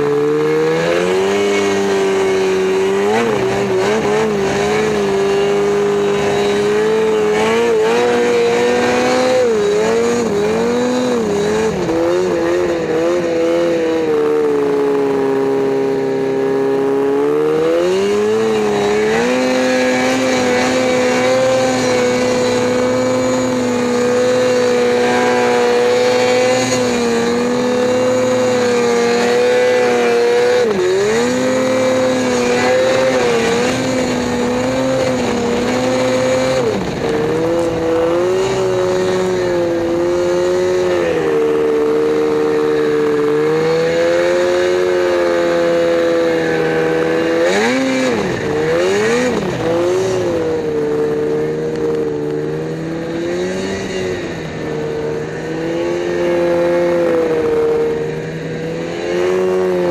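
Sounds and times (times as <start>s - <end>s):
snowmobile engine revving high: 0.0s - 59.9s.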